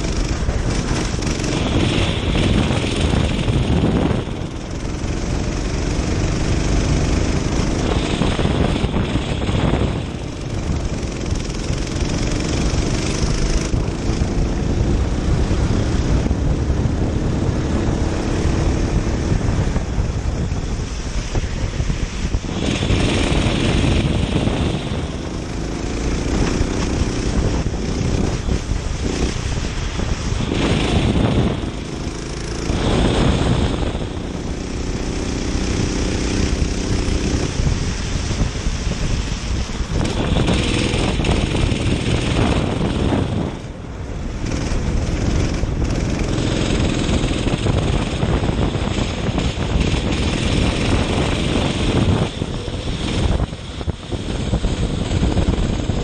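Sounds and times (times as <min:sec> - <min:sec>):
kart engine racing: 0:00.0 - 0:56.0
wind noise on microphone: 0:00.0 - 0:56.0.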